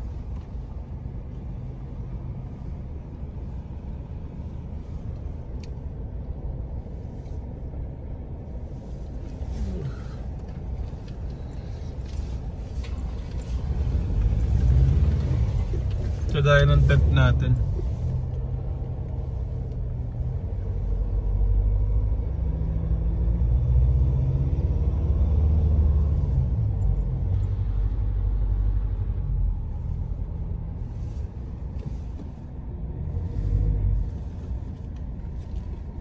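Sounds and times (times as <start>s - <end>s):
truck engine rumble: 0.0s - 36.0s.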